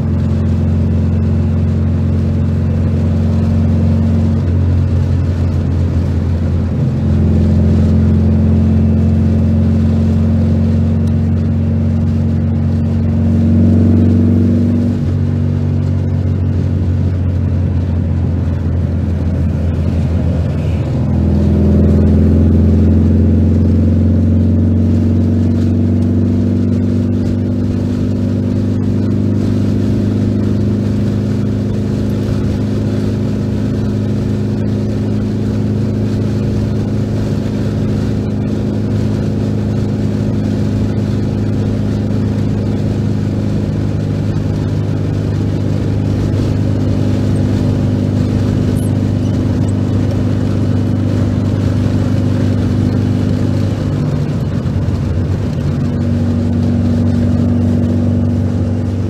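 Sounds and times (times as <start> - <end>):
car engine droning while driving: 0.0 - 59.0.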